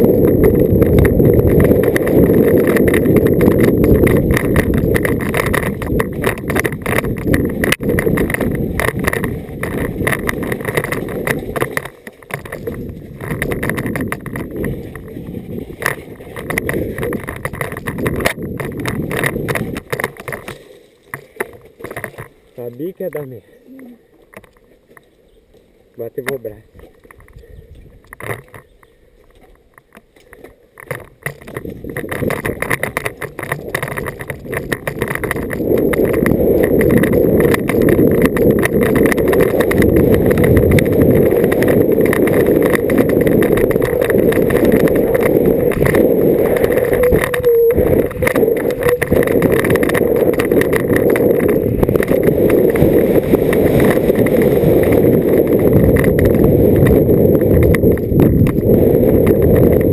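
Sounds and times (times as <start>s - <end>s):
wind rushing over microphone: 0.0s - 20.4s, 31.0s - 59.9s
bike rattling and knocking: 0.0s - 23.4s, 24.2s - 25.1s, 26.0s - 59.9s.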